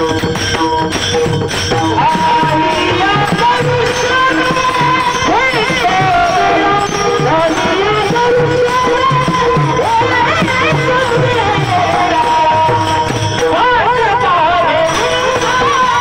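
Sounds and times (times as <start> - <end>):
drum beating: 0.0 - 16.0
jingling hand cymbals: 0.0 - 16.0
man singing devotional melody: 1.5 - 16.0.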